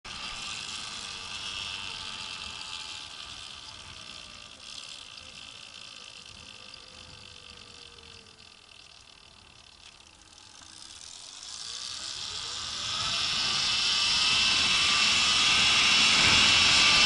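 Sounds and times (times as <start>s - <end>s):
faint electric motor whine: 0.1s - 17.0s.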